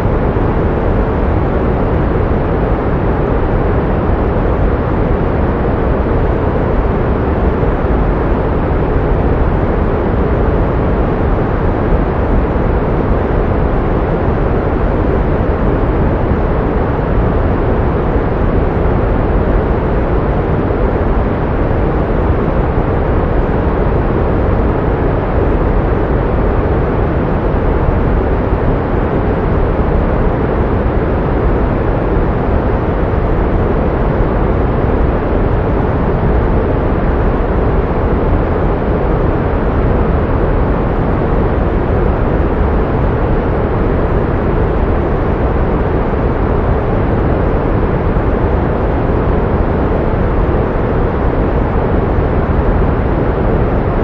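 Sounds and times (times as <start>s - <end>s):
steady pink noise: 0.0s - 54.0s.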